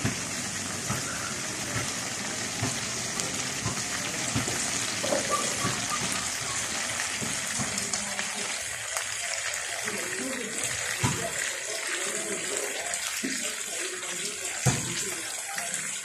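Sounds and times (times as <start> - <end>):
oil popping and crackling: 0.0 - 16.0
sausages sizzling in oil: 0.0 - 16.0.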